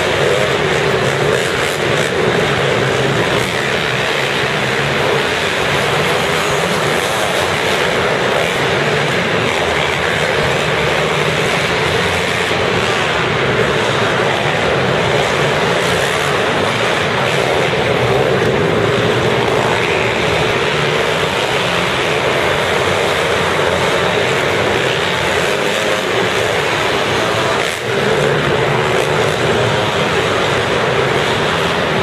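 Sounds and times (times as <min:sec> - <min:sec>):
small motorbike engines revving: 0:00.0 - 0:32.0.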